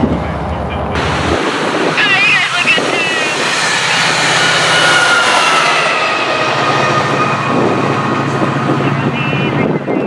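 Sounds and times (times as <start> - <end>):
train passing: 0.0 - 10.0.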